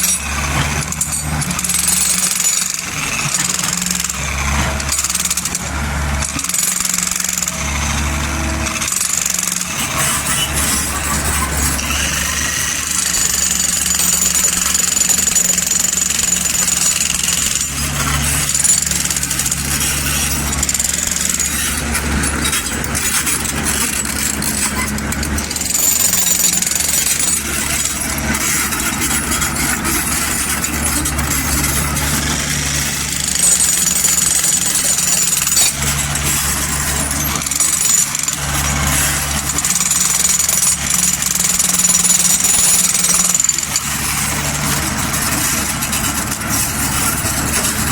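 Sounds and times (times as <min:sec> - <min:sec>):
clatter: 0:00.0 - 0:47.9
excavator diesel engine: 0:00.0 - 0:47.9.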